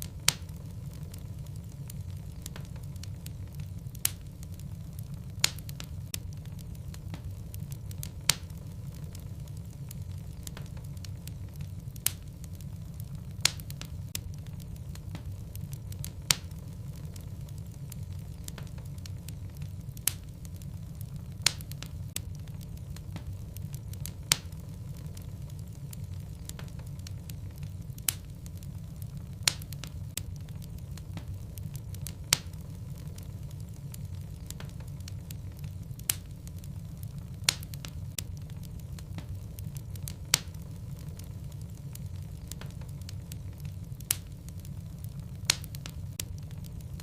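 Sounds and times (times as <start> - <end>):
logs crackling and popping: 0.0 - 47.0
low rumble of flames: 0.0 - 47.0.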